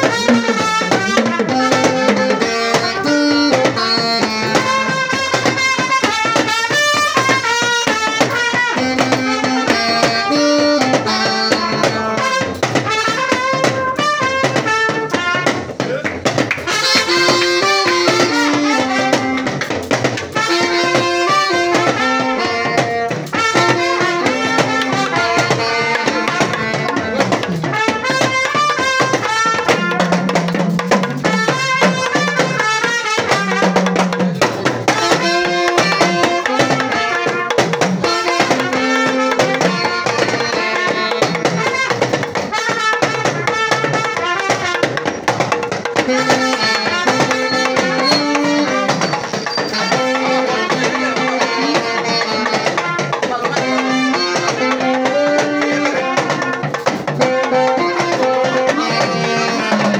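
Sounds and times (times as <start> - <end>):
busy percussion: 0.0 - 59.9
saxophone and trumpet melody: 0.0 - 59.9.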